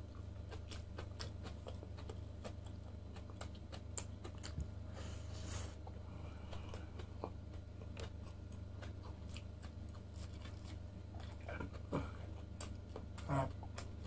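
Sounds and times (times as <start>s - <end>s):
close chewing: 0.0s - 14.0s
steady low hum: 0.0s - 14.0s.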